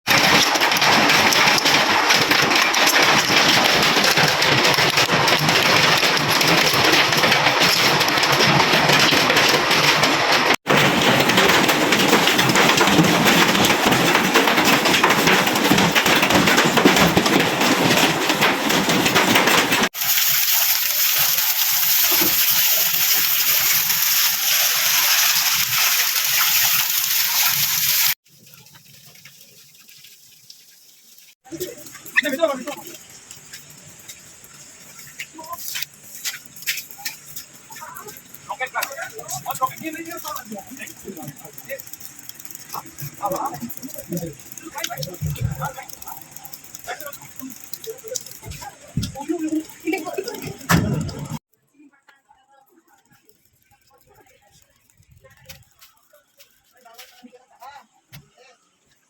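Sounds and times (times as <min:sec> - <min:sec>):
hail and rain rushing: 0:00.0 - 0:51.4
hailstones clattering: 0:00.1 - 0:51.4, 0:52.9 - 0:57.6.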